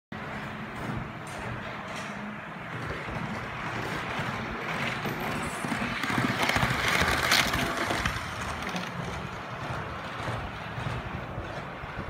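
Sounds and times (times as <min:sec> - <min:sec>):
model train wheels clattering on track: 0:00.2 - 0:12.0.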